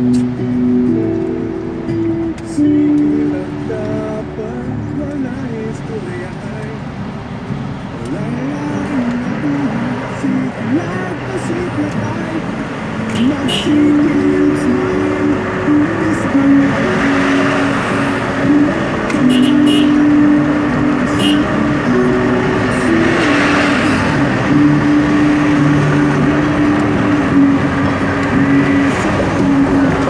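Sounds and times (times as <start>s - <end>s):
car road and wind noise: 0.0s - 30.0s
vehicle passing alongside: 0.0s - 30.0s.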